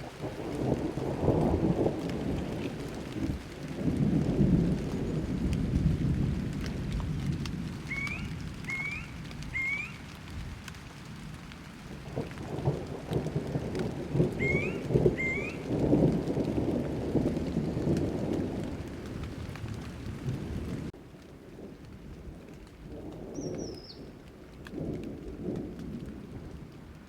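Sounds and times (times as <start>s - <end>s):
rolling thunder: 0.0s - 11.4s, 12.0s - 27.0s
steady rain: 0.0s - 27.0s.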